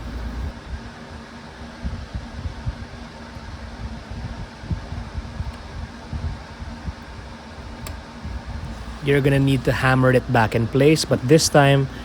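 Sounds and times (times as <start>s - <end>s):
fluctuating low rumble: 0.0s - 0.9s, 1.8s - 12.0s
steady mechanical hum: 0.0s - 12.0s.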